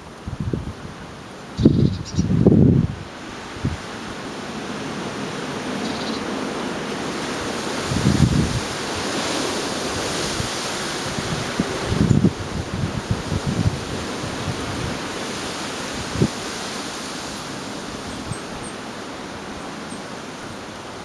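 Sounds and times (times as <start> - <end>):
wind buffeting microphone: 0.0 - 18.7
storm wind blowing: 0.0 - 19.6.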